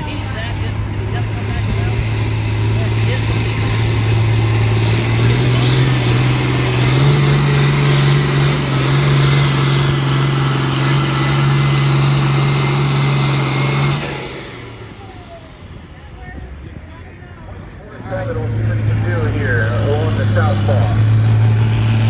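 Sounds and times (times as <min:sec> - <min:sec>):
truck engine running at high revs: 0:00.0 - 0:22.0.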